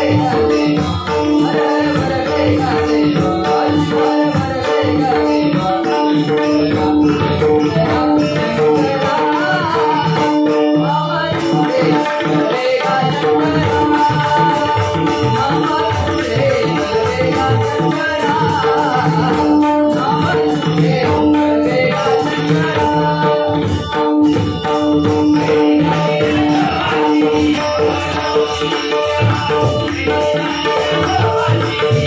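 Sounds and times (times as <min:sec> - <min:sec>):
hand drums beating: 0:00.0 - 0:32.0
jingling cymbals: 0:00.0 - 0:32.0.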